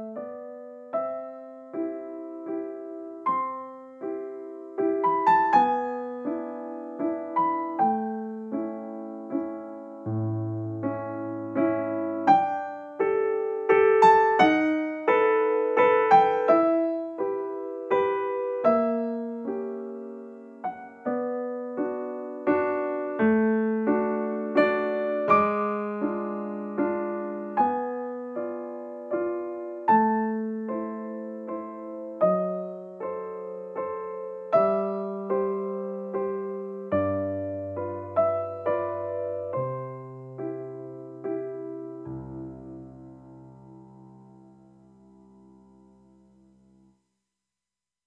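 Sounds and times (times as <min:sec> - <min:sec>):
gentle solo piano melody: 0:00.0 - 0:47.0.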